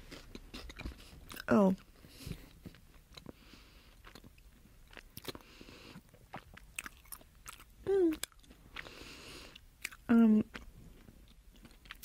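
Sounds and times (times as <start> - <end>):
person chewing toast: 0.0 - 12.0.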